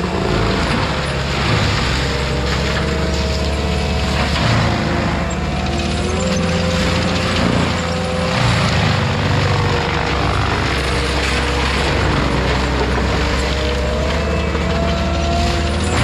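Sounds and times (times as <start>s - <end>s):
engine whine: 0.0s - 16.0s
heavy machine engine rumbling: 0.0s - 16.0s.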